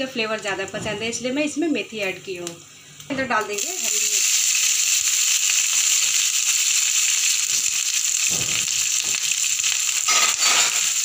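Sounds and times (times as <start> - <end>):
chillies sizzling in oil: 1.4 - 11.0.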